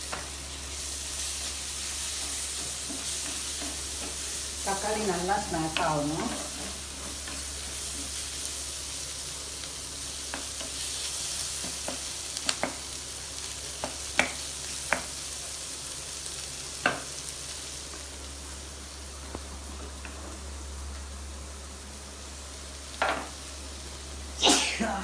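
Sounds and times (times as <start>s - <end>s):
food sizzling in a pot: 0.0s - 25.0s.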